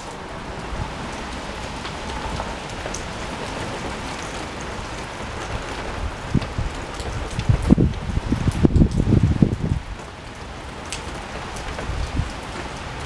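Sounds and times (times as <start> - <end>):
rain on wet pavement: 0.0 - 13.0.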